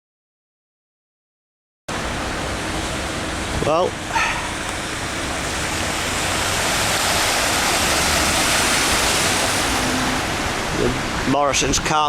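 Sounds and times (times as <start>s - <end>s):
floodwater rushing across ground: 1.9s - 12.0s.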